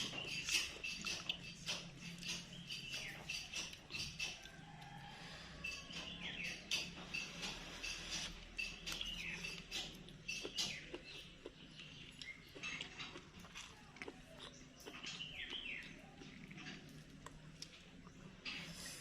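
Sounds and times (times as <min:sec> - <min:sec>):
wet chewing and lip-smacking: 0:00.0 - 0:04.6, 0:05.6 - 0:18.5.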